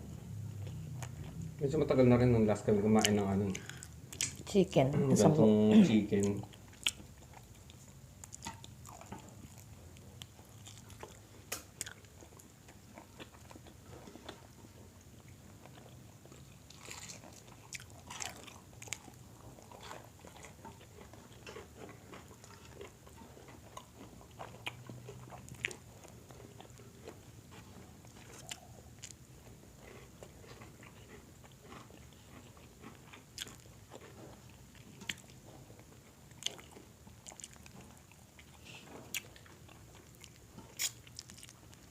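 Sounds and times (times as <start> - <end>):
person chewing crispy food: 0.6 - 1.7, 2.9 - 4.5, 6.1 - 41.9.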